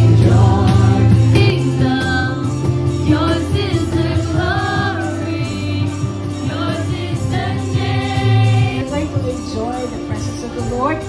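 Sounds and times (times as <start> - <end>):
crowd singing along: 0.0 - 9.0
lead singer on microphone: 0.0 - 9.1
live band playing: 0.0 - 11.0.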